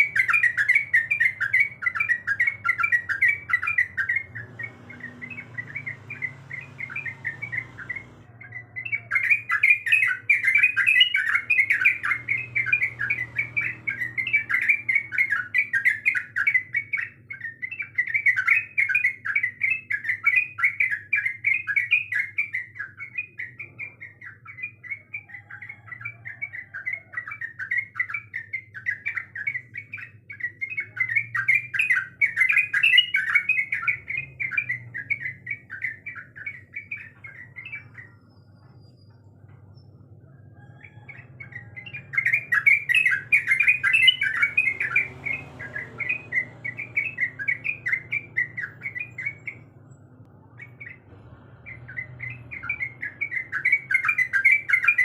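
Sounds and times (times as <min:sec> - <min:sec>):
bird singing chattering notes: 0:00.0 - 0:55.0.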